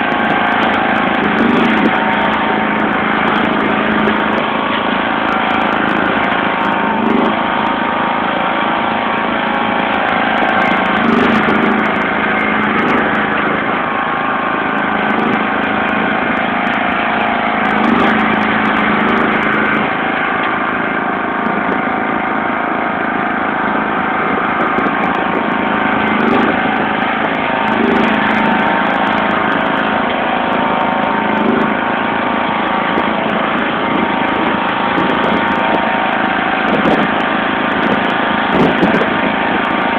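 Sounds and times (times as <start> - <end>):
lawn tractor engine under load: 0.0 - 39.9.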